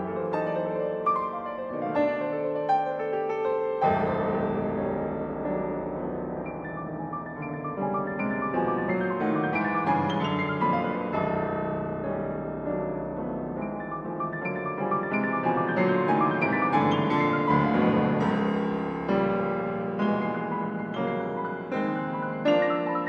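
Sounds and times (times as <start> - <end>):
solo grand piano: 0.0 - 23.0.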